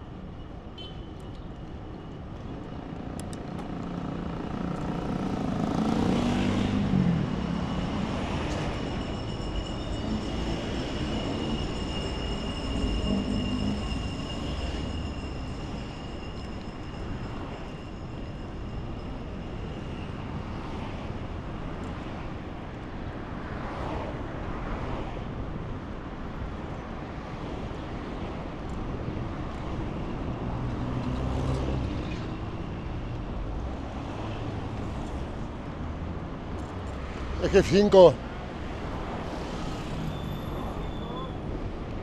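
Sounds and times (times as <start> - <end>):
rumbling city traffic: 0.0 - 42.0.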